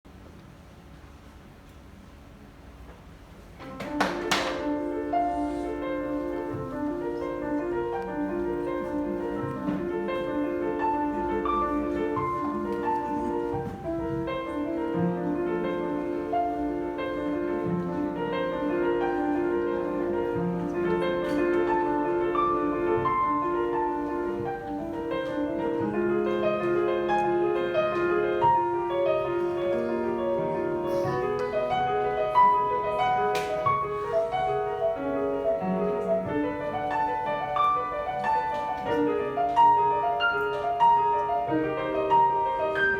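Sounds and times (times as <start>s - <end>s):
slow keyboard music: 4.6s - 42.9s.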